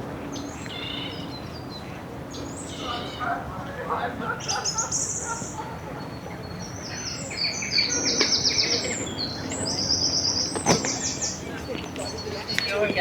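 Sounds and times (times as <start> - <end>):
outdoor background noise: 0.0 - 13.0
songbirds singing: 0.0 - 13.0.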